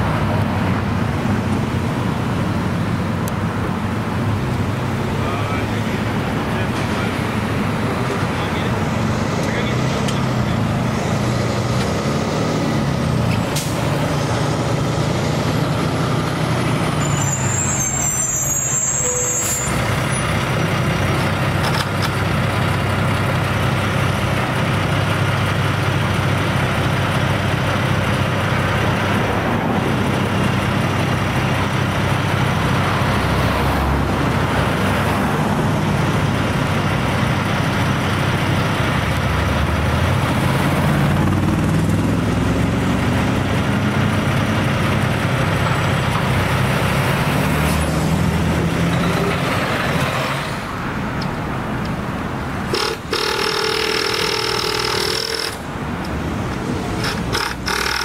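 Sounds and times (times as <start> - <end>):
large engine running: 0.0 - 17.0, 19.8 - 58.0.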